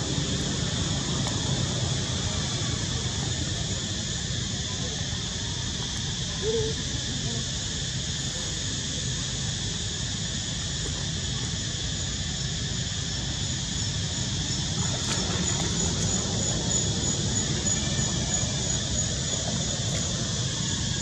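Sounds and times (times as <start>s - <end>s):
steady hissing noise: 0.0s - 21.0s.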